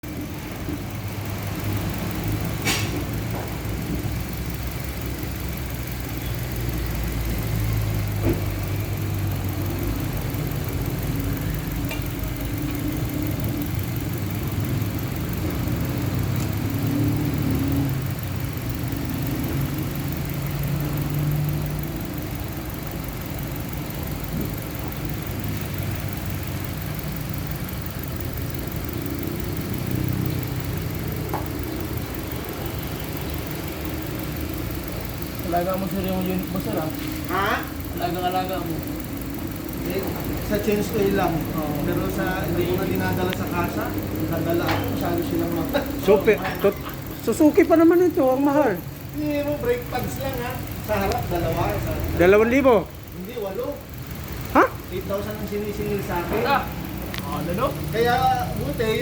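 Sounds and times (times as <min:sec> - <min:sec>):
car engine idling: 0:00.0 - 0:59.0
sharp clicks: 0:01.1 - 0:49.1, 0:49.9 - 0:53.2, 0:56.7 - 0:58.0.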